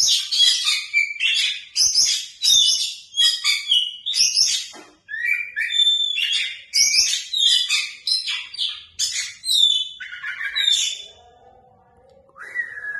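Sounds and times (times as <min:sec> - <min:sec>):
bird singing varied song: 0:00.0 - 0:11.2.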